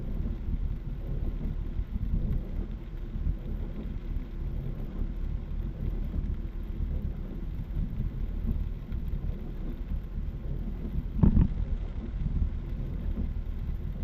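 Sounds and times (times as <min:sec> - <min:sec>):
heavy rain drumming on car roof: 0:00.0 - 0:14.0.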